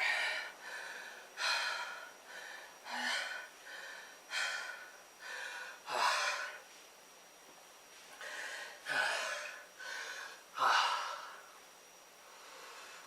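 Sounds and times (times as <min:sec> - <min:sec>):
man breathing hard: 0:00.0 - 0:06.6, 0:08.1 - 0:11.5, 0:12.2 - 0:13.0.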